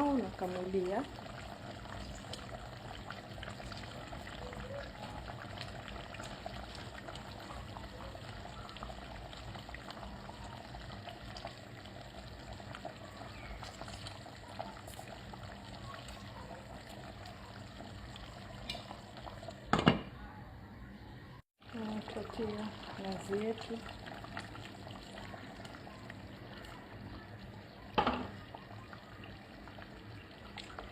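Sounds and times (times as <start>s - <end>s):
curry bubbling in a pot: 0.0s - 19.8s, 21.6s - 30.9s.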